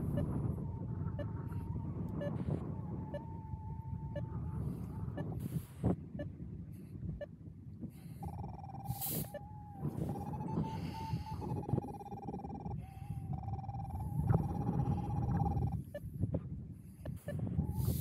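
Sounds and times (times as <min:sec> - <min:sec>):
variometer steady wavering tone: 0:00.0 - 0:16.3, 0:16.9 - 0:18.0
wind buffeting microphone: 0:00.0 - 0:18.0.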